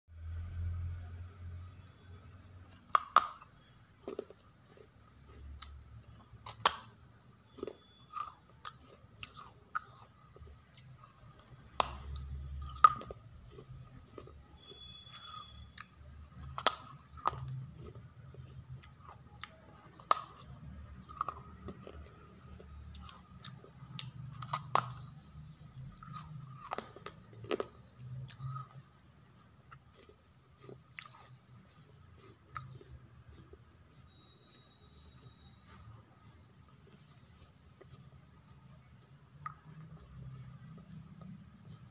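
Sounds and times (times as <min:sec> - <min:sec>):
grinding chewing: 0:01.3 - 0:41.9.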